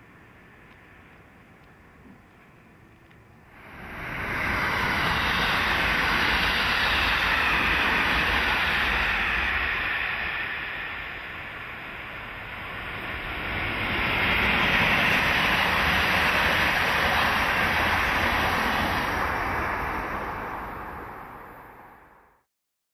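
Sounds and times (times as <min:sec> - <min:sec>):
train wheels rushing on rails: 0:00.0 - 0:22.3.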